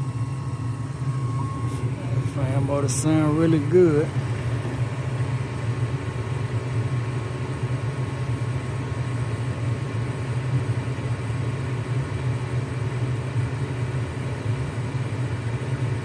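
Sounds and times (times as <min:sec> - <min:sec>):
gas furnace humming: 0:00.0 - 0:16.0.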